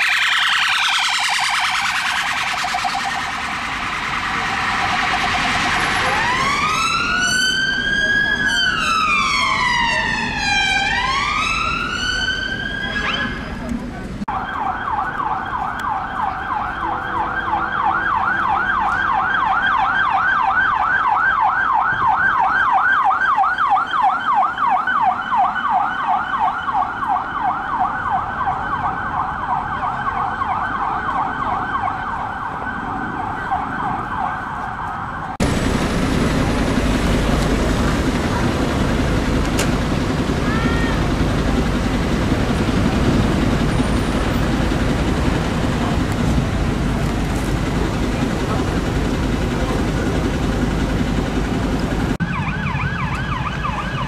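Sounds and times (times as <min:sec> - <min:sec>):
police siren yelping: 0:00.0 - 0:13.6, 0:14.3 - 0:54.0
street traffic rumble: 0:00.0 - 0:54.0.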